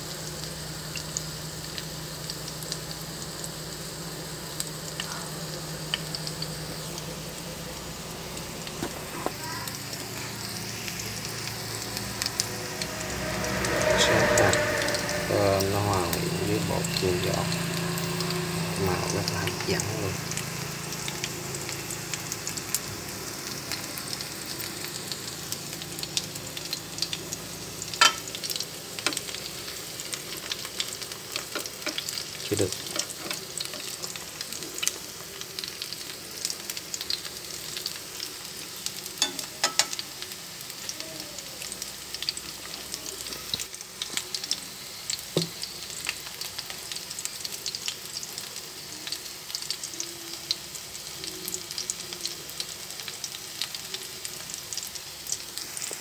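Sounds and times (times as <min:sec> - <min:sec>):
sharp clicks of frying: 0:00.0 - 0:15.2, 0:15.8 - 0:56.0
patties sizzling in a pan: 0:00.0 - 0:56.0.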